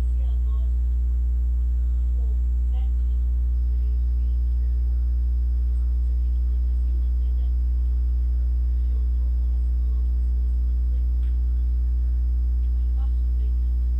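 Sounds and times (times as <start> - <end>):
electrical mains hum: 0.0 - 13.9.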